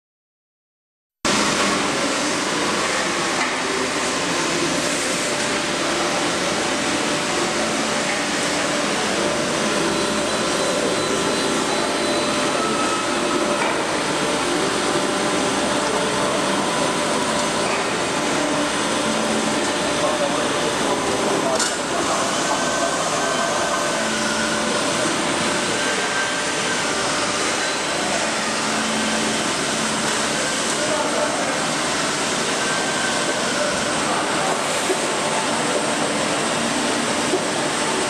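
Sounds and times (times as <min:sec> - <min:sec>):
milling machine hiss and hum: 0:01.3 - 0:38.0.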